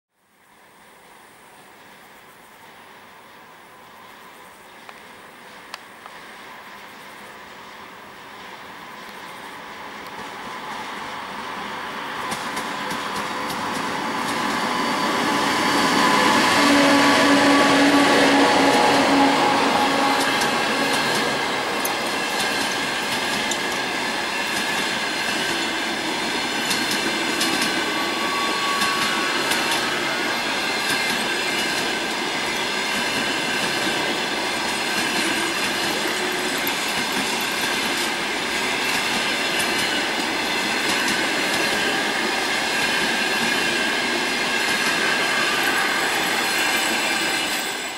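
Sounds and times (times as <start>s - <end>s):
train wheels rushing on rail: 0.7s - 47.9s.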